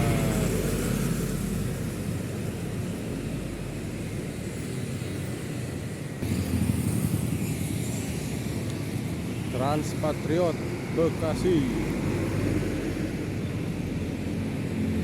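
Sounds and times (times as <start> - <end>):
heavy vehicles passing: 0.0 - 15.0.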